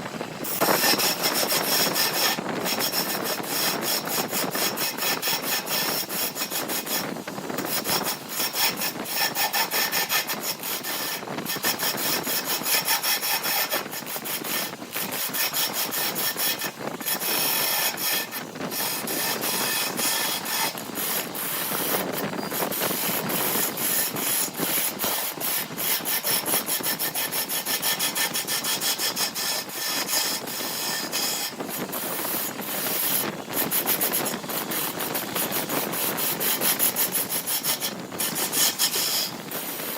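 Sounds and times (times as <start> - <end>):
hand tool scraping wood: 0.4 - 39.9.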